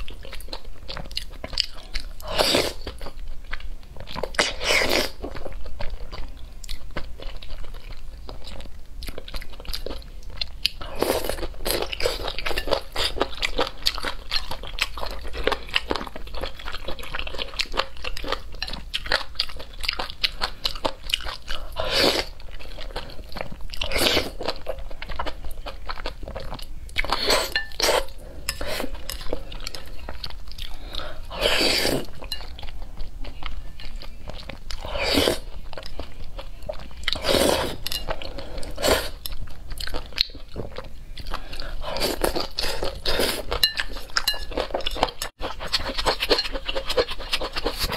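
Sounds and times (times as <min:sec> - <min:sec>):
wet chewing: 0:00.0 - 0:47.9.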